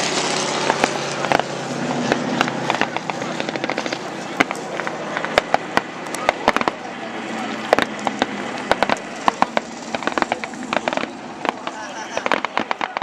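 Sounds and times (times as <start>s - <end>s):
crowd hubbub: 0.0s - 13.0s.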